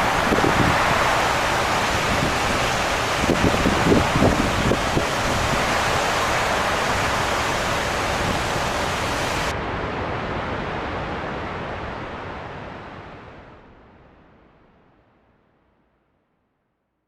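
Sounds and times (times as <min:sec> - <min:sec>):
muffled rush: 0:00.0 - 0:14.6
heavy rain and wind: 0:00.0 - 0:14.7.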